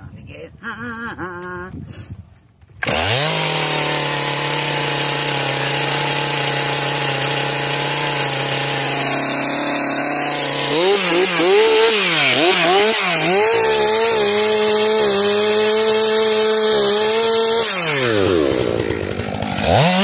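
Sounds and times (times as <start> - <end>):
chainsaw engine running: 2.8 - 20.0.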